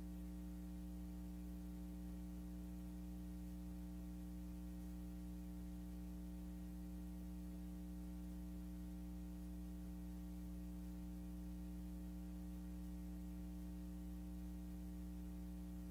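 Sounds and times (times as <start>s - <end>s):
electrical mains hum: 0.0s - 15.9s.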